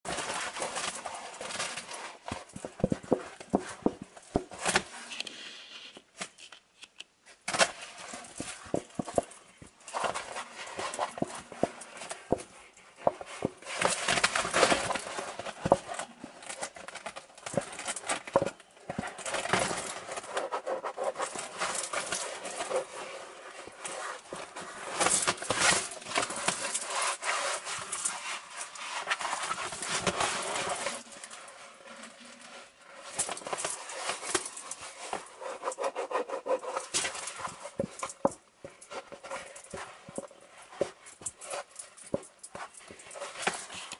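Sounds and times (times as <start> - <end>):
leather rustling and rubbing: 0.1 - 5.1, 8.0 - 43.9.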